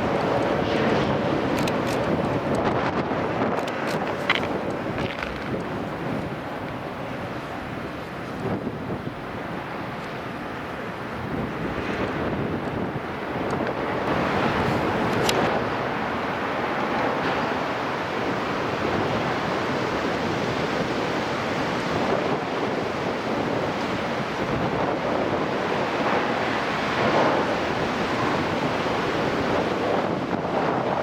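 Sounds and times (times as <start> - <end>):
strong wind on microphone: 0.0 - 31.0.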